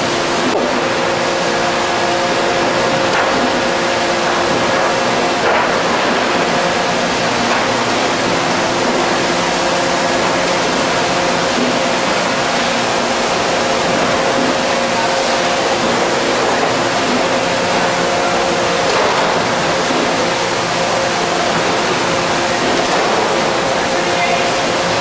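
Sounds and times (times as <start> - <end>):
constant machine hum: 0.0 - 25.0
factory machinery rushing noise: 0.0 - 25.0.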